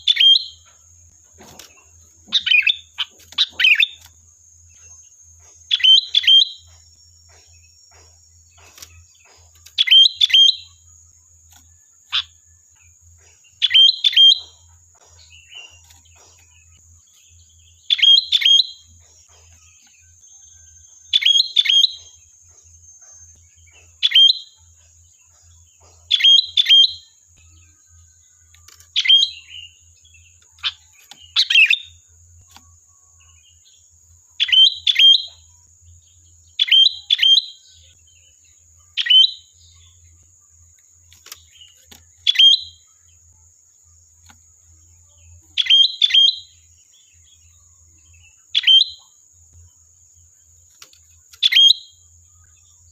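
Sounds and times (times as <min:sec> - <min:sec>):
bulbul chirpy calls: 0:00.0 - 0:43.3, 0:44.1 - 0:49.2, 0:50.2 - 0:52.9.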